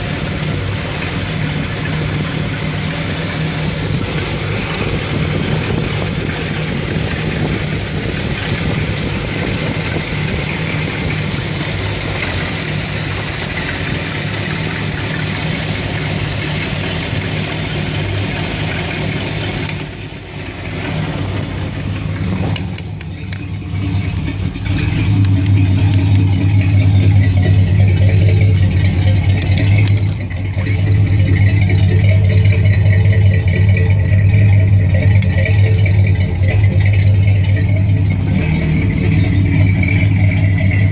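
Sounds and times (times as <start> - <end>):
van engine idling: 0.0 - 40.9.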